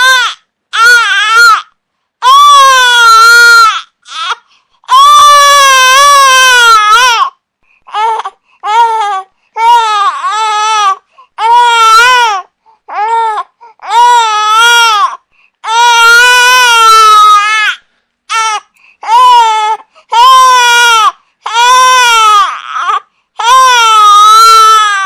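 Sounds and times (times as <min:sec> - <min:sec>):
infant crying: 0:00.0 - 0:25.0.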